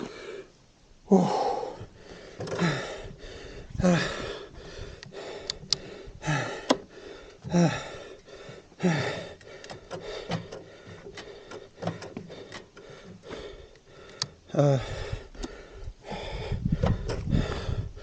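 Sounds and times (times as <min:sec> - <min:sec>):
man breathing hard: 0:00.0 - 0:18.0.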